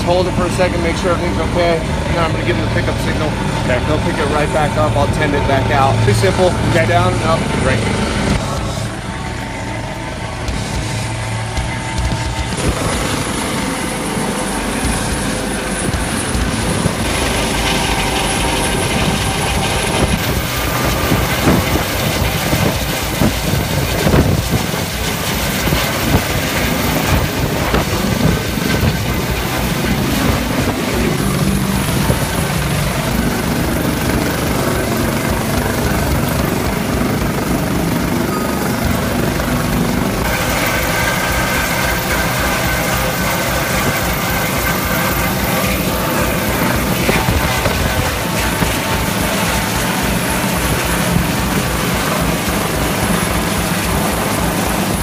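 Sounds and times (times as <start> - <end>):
helicopter hovering overhead: 0.0 - 55.0.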